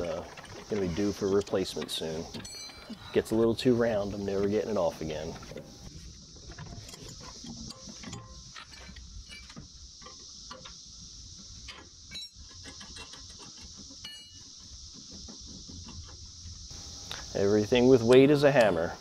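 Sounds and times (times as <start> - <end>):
cicada chorus drone: 0.0 - 19.0.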